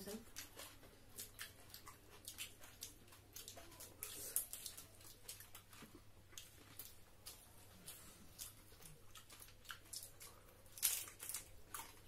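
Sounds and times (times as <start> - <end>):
mouths chewing: 0.0 - 12.0.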